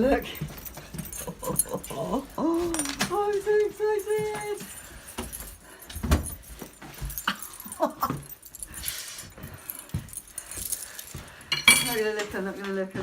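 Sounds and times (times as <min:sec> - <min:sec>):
keys jingling: 0:00.0 - 0:13.0.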